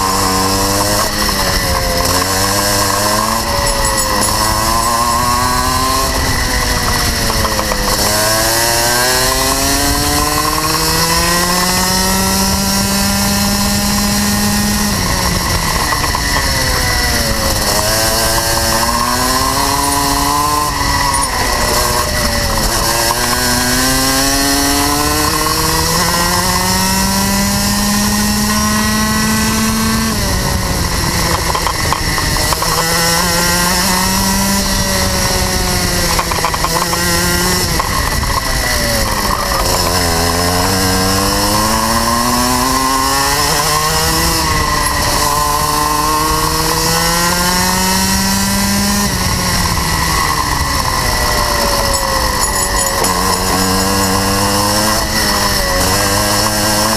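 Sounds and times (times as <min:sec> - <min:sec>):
kart engine revving: 0:00.0 - 0:56.9.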